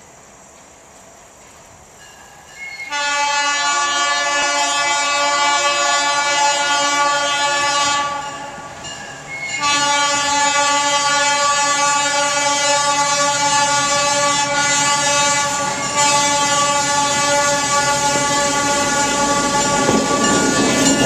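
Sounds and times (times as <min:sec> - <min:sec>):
locomotive air horn blasts: 0:02.8 - 0:08.6, 0:09.4 - 0:21.0.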